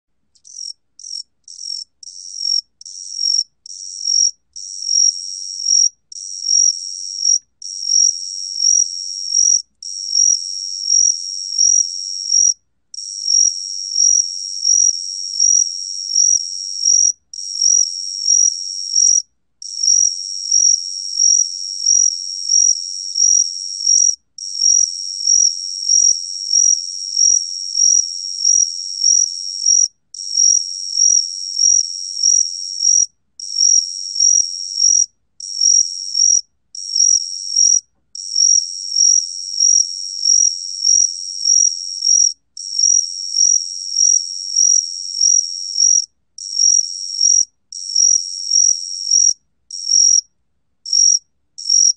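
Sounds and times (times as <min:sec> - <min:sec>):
cricket trilling: 0:00.4 - 0:50.2, 0:50.9 - 0:51.9.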